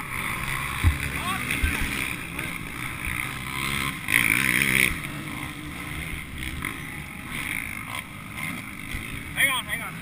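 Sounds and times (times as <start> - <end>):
quad engines revving: 0.0 - 10.0.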